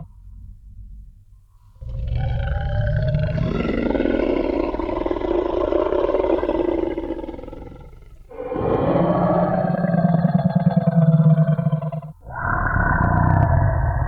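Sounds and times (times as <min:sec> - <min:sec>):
deep dinosaur roar: 0:01.8 - 0:14.0.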